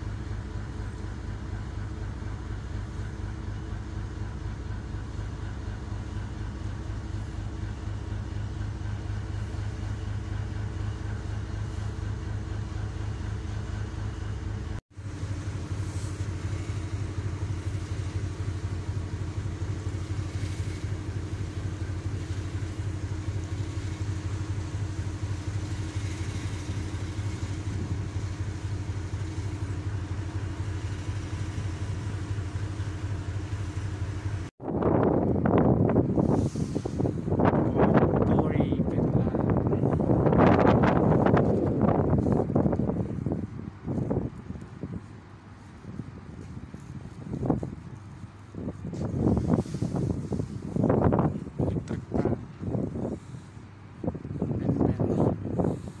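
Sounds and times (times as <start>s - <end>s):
hiss of wind and wake: 0.0s - 56.0s
ship engine humming: 0.0s - 56.0s.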